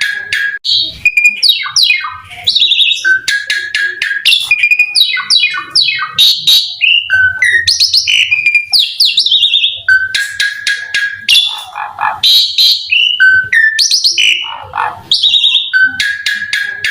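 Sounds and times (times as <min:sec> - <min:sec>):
starling singing whistled notes: 0:00.0 - 0:16.9.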